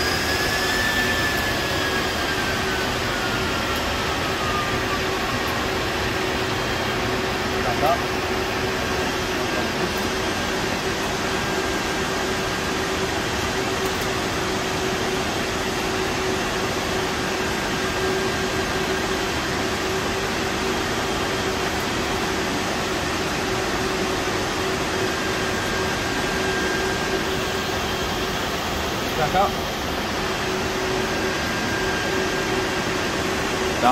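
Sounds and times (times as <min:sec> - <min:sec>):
constant hum tone: 0:00.0 - 0:33.9
cooling fans whirring: 0:00.0 - 0:33.9.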